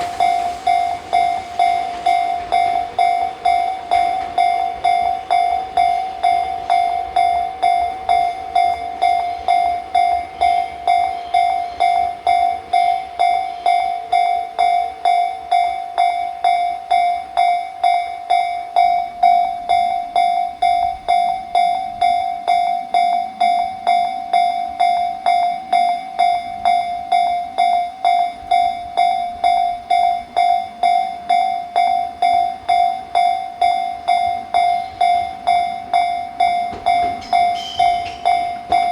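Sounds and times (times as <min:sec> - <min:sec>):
level crossing warning alarm: 0:00.0 - 0:38.9.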